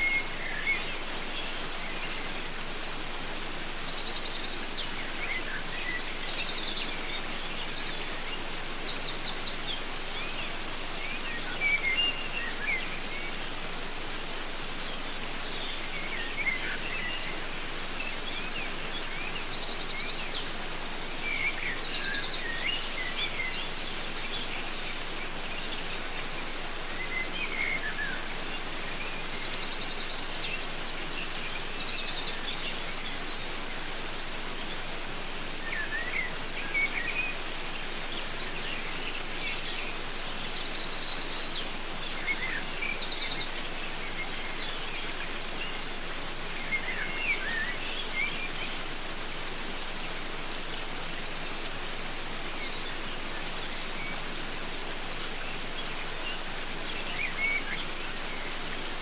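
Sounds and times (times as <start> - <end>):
birds chirping: 0.0 - 59.0
waterfall rushing: 0.0 - 59.0.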